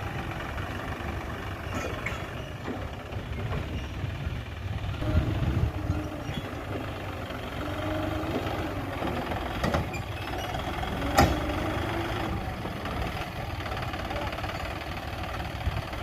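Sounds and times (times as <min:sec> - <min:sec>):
petrol engine idling: 0:00.0 - 0:16.0.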